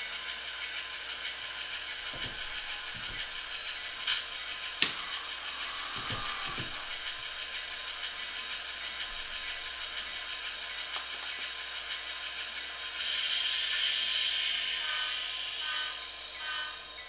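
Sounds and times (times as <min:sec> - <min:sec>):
model locomotive engine drone: 0:00.0 - 0:17.0.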